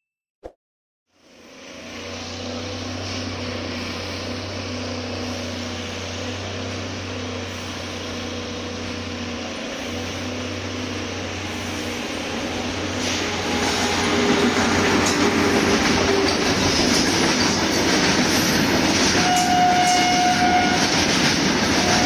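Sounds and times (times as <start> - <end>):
locomotive humming and hissing: 1.1 - 22.0.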